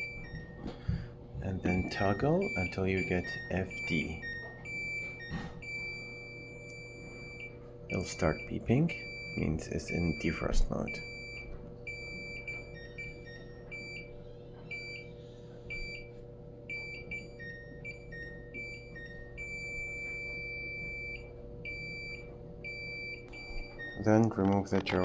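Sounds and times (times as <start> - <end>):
long held beep: 1.6 - 24.0.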